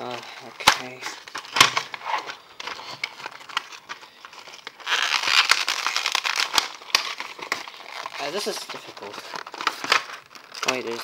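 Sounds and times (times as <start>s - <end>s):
plastic blister pack crinkling: 0.0s - 11.0s.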